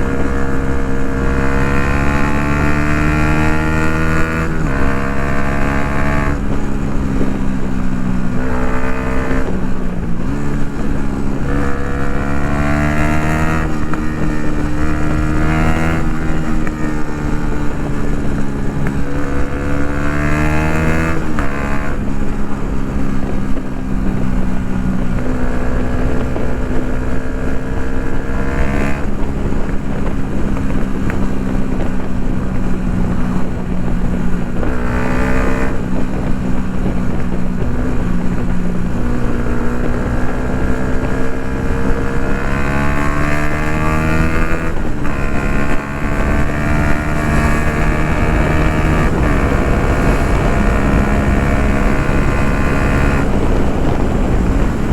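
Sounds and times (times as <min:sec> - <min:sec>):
motorcycle engine accelerating: 0:00.0 - 0:54.9
wind noise on microphone: 0:00.0 - 0:54.9.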